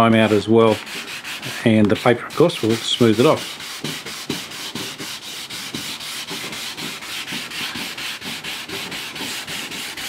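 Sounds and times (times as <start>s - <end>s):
sandpaper rubbing on wood: 0.0s - 10.0s.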